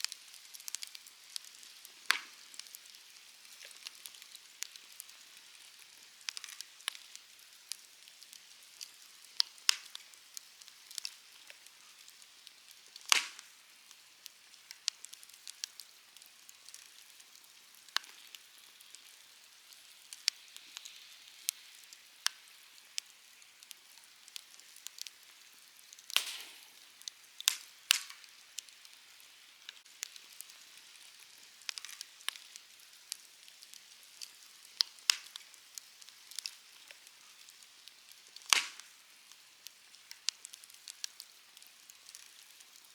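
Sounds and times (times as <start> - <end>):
fire popping: 0.0 - 42.9
low fire hiss: 0.0 - 42.9
wood fire crackling: 0.0 - 42.9.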